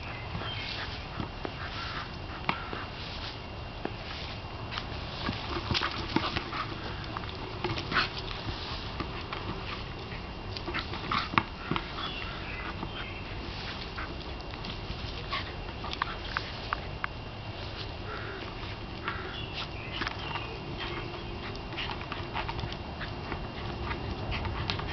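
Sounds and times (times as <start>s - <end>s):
dog sniffing and snuffling: 0.0s - 24.9s.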